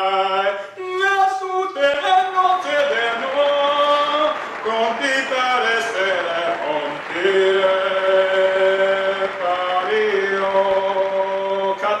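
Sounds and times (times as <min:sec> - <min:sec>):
man singing operatic notes: 0:00.0 - 0:12.0.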